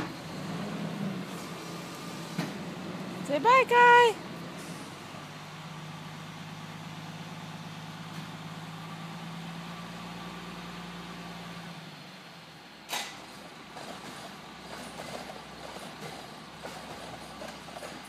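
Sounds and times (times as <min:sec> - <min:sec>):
garbage truck engine idling: 0:00.0 - 0:18.0.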